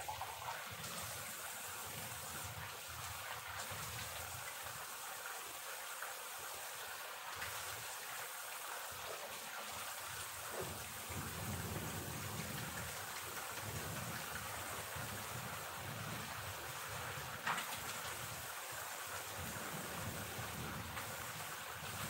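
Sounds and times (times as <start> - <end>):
heavy rain on pavement: 0.0 - 22.0.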